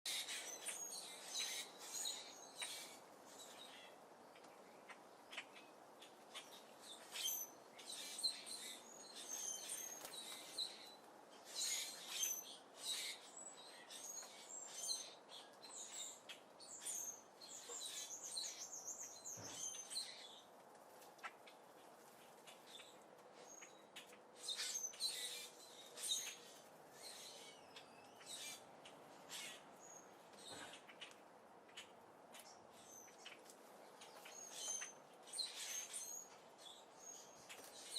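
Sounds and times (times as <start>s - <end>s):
songbirds chirping and twittering: 0.0s - 37.9s.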